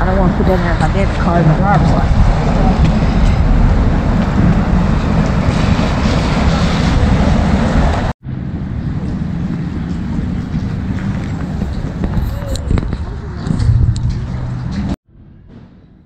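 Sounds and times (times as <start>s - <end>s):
distant traffic: 0.0s - 16.0s
wind on microphone: 0.0s - 16.0s.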